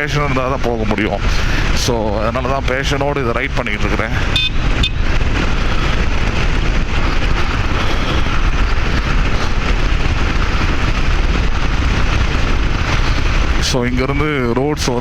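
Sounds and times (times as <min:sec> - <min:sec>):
road noise: 0:00.0 - 0:15.0
wind on microphone: 0:00.0 - 0:15.0
motorcycle engine running: 0:01.2 - 0:13.7.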